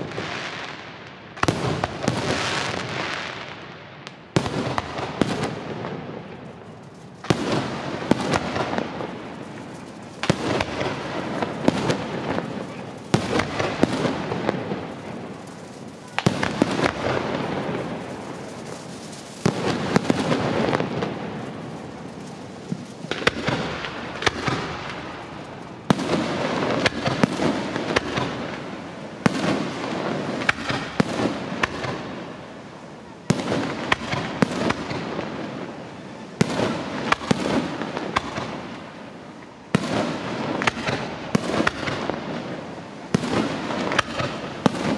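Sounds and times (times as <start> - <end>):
firework crackling and popping: 0.0 - 44.9.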